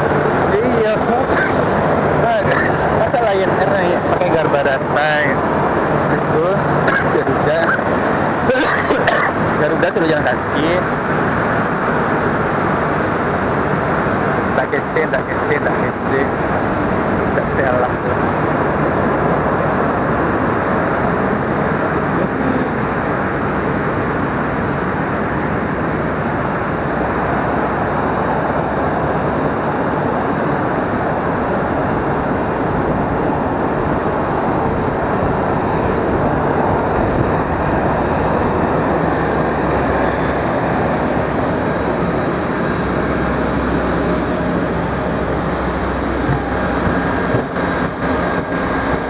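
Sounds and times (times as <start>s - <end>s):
high-pitched whine: 0.0s - 49.0s
jet turbine roar: 0.0s - 49.0s.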